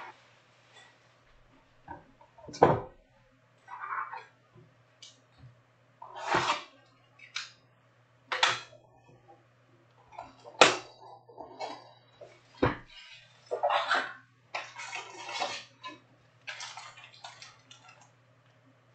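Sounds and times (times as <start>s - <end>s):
faint low hum: 0.0s - 18.9s.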